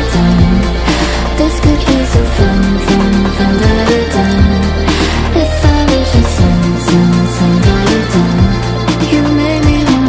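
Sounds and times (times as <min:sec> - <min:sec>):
held bass line: 0:00.0 - 0:10.0.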